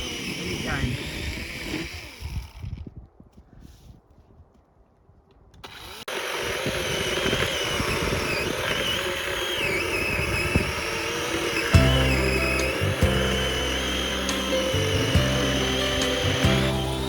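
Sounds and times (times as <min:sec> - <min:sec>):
small engine running loudly: 0:00.0 - 0:02.6, 0:05.7 - 0:17.0.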